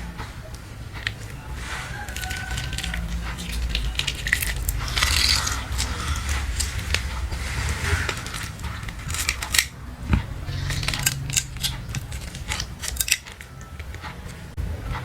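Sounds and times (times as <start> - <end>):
sharp clicks and crackles: 0.0 - 14.6.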